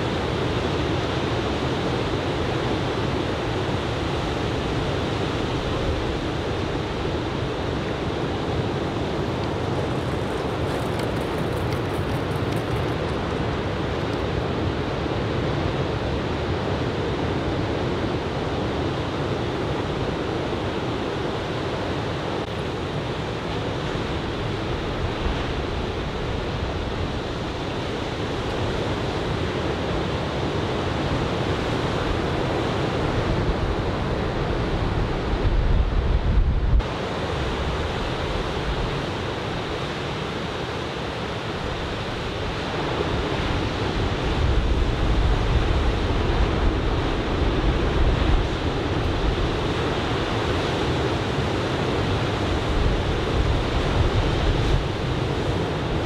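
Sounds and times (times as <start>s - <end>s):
wind rumbling on microphone: 0.0s - 56.0s.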